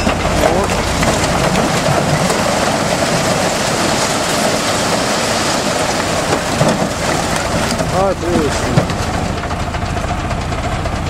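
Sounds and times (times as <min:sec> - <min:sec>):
broken brick clattering: 0:00.0 - 0:09.3
truck engine running: 0:00.0 - 0:11.0.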